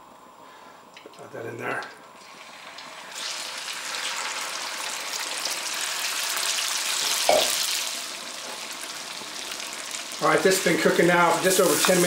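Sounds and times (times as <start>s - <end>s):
chicken sizzling in a wok: 2.2s - 12.0s.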